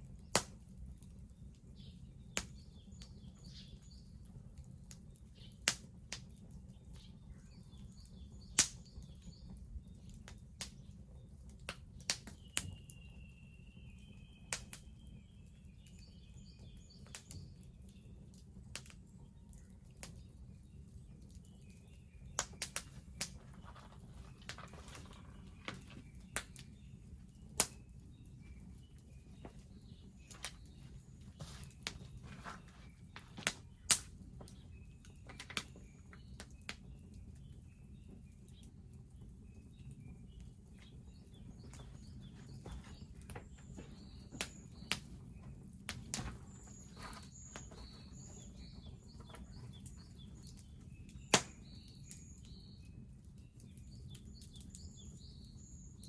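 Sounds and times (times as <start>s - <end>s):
birds chirping faintly: 0.0s - 56.0s
bonfire crackling and popping: 0.0s - 56.0s.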